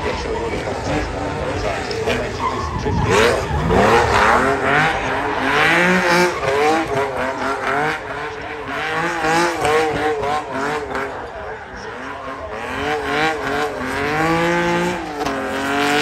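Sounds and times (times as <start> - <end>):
race car engine: 0.0 - 16.0
tyres squealing: 0.1 - 16.0.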